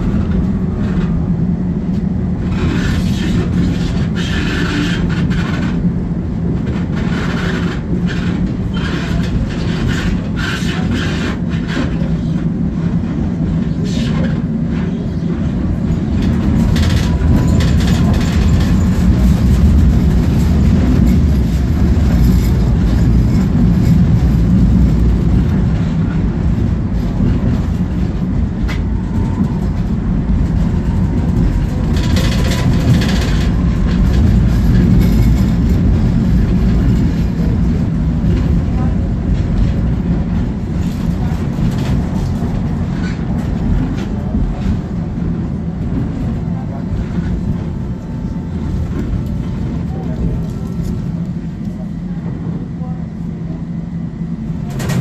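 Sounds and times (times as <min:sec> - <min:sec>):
tram wheels rumbling: 0:00.0 - 0:55.0.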